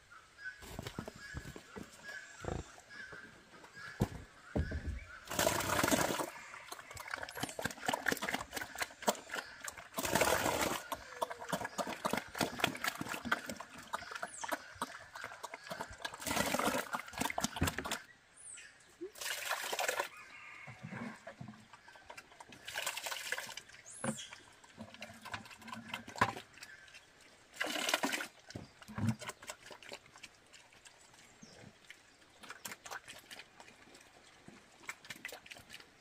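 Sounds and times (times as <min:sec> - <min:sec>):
pigs chomping and slurping: 0:00.7 - 0:18.1, 0:19.1 - 0:20.2, 0:20.9 - 0:36.0
liquid feed poured into trough: 0:05.3 - 0:15.0, 0:15.6 - 0:18.0, 0:19.0 - 0:36.0.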